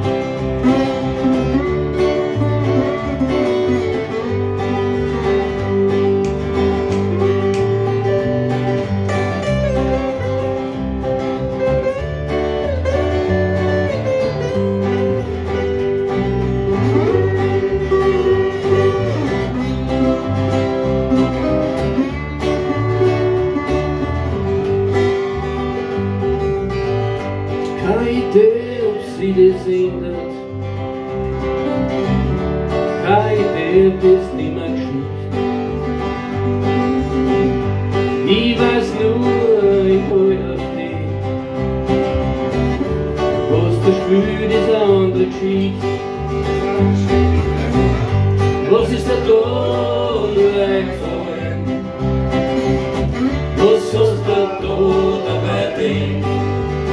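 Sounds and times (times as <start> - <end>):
resonator guitar lead line: 0.0 - 56.9
strummed acoustic guitar chords: 0.0 - 56.9
walking electric bass: 0.0 - 56.9.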